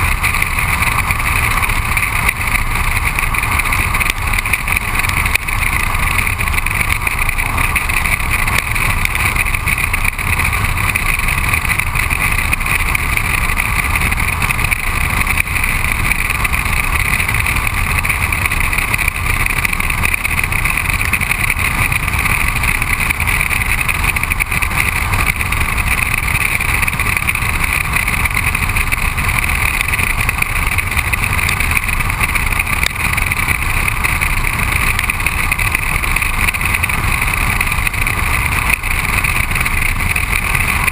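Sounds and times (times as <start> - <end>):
tyre noise on road: 0.0 - 40.9.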